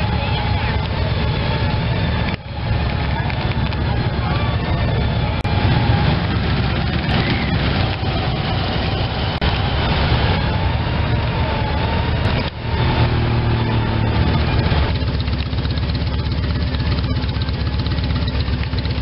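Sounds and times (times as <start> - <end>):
motorcycle engine while riding: 0.0 - 19.0
vehicles driving past slowly: 0.0 - 19.0.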